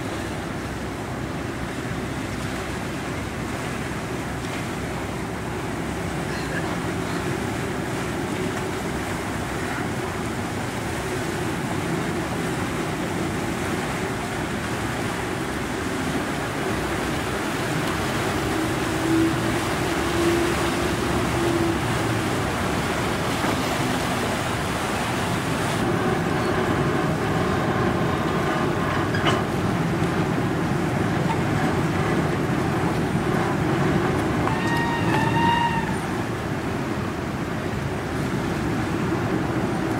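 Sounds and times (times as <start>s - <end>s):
engine hum: 0.0s - 39.9s
rushing water: 0.0s - 39.9s
wind: 0.0s - 39.9s.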